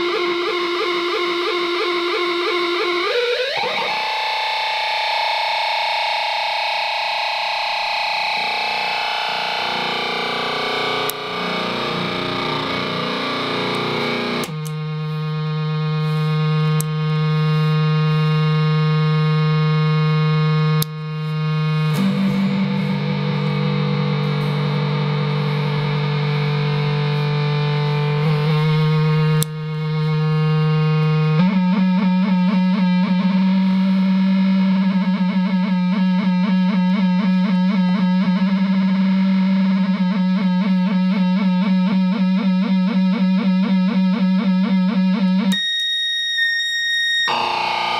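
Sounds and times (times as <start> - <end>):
distorted guitar pedal drone: 0.0 - 47.9.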